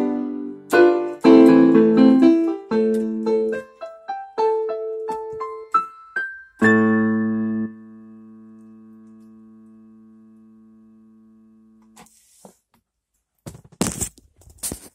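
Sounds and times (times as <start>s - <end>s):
electronic keyboard chord: 0.0s - 12.0s.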